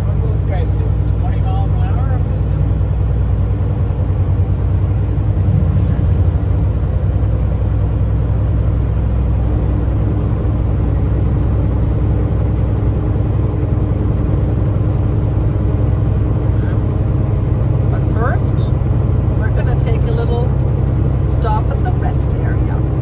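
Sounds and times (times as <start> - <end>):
diesel truck engine rumble: 0.0 - 23.0
road noise: 0.0 - 23.0
steady higher hum: 0.0 - 23.0.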